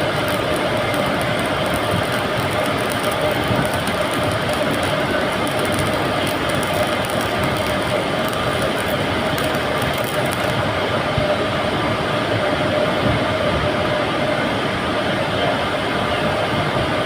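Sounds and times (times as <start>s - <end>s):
machinery noise with hum: 0.0s - 17.0s.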